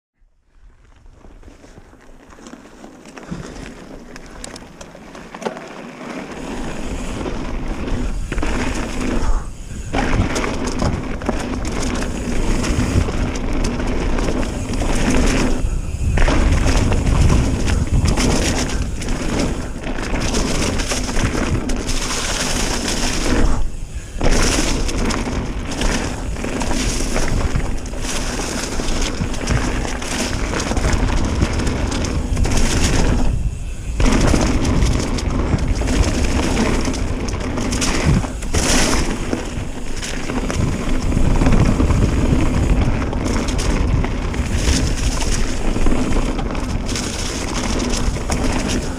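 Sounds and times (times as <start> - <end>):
bike tyres rumbling over dirt: 0.5 - 48.9
bike clattering and knocking: 2.4 - 48.9
wind on microphone: 6.7 - 48.9.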